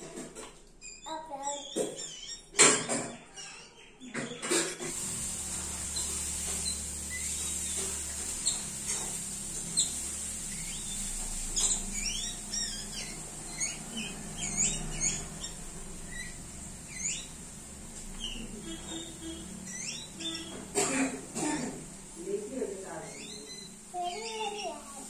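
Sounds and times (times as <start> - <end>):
small birds chirping: 0.1 - 21.3, 21.9 - 25.0.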